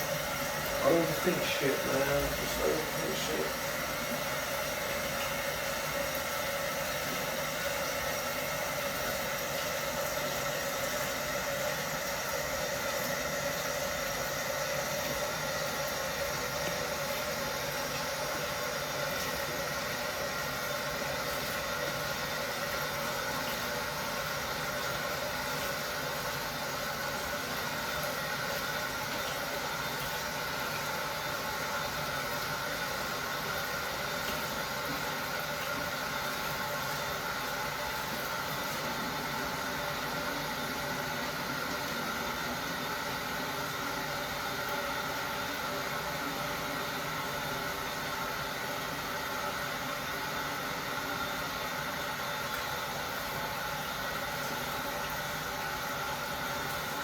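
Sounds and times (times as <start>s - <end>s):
machine hum and hiss: 0.0s - 57.0s.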